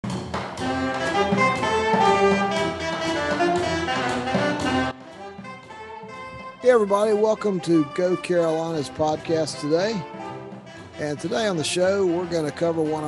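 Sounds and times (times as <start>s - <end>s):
jazzy brass music: 0.5s - 13.0s.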